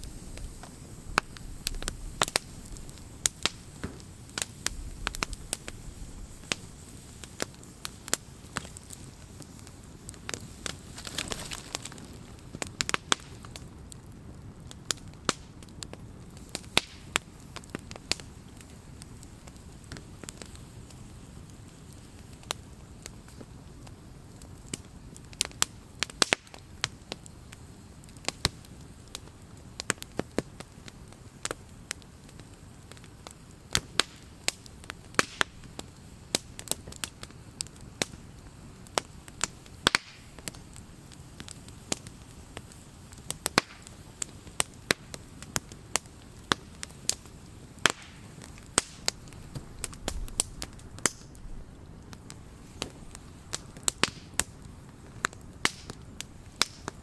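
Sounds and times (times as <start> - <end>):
campfire wood crackling and popping: 0.0 - 57.0
soft steady fire hiss: 0.0 - 57.0.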